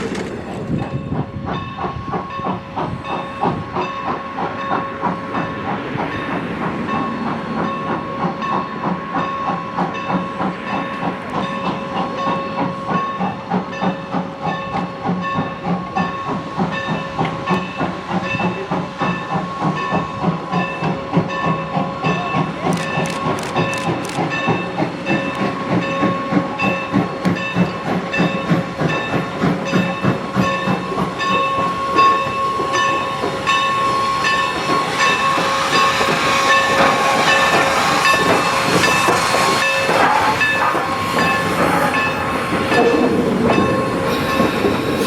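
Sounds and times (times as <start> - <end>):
train beat: 0.0 - 45.0
steam hissing: 0.6 - 45.0.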